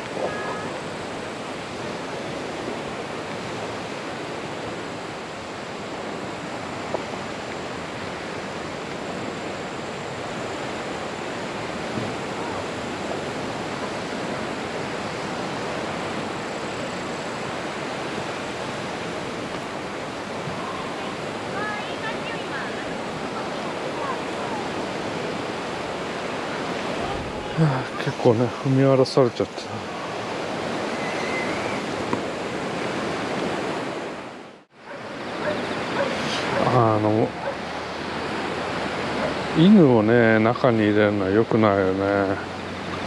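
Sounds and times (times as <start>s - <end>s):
small waves on a shore: 0.0s - 43.0s
wind: 0.0s - 43.0s.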